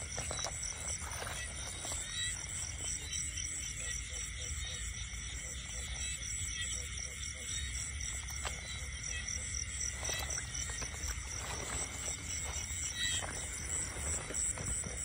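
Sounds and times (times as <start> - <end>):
insects and frogs chirping: 0.0 - 15.0.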